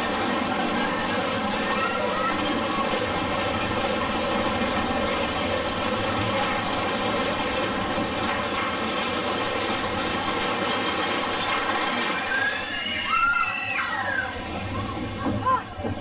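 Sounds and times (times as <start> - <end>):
roller coaster running on track: 0.0 - 16.0.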